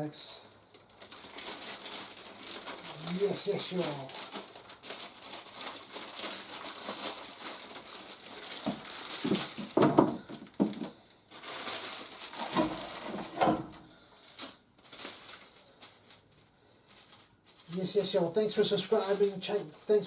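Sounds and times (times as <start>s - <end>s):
plastic packaging crinkling: 0.7s - 20.0s.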